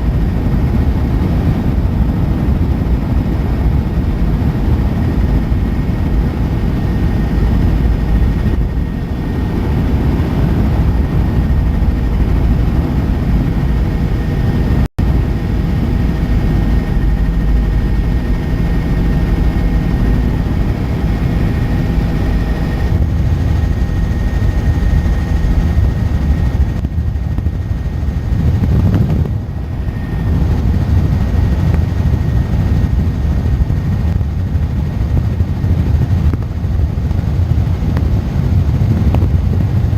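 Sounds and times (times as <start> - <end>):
high whine: 0.0 - 35.0
helicopter engine and rotor drone: 0.0 - 39.9.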